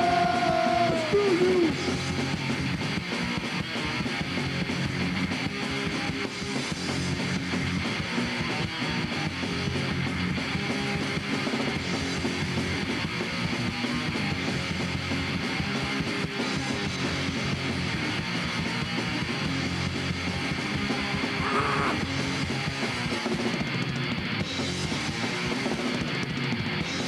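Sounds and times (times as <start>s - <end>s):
punk rock band playing: 0.0s - 27.0s.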